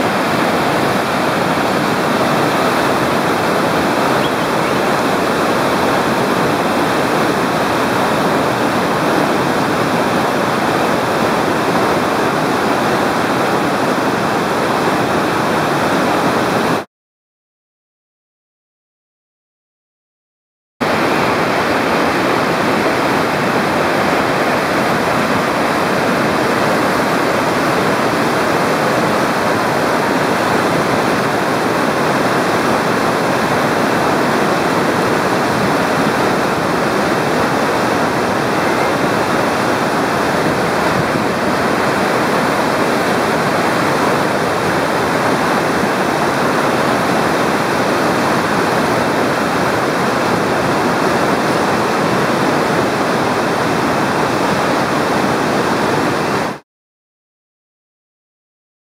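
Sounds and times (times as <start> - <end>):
whitewater river rapid roaring: 0.0 - 16.9, 20.8 - 56.6.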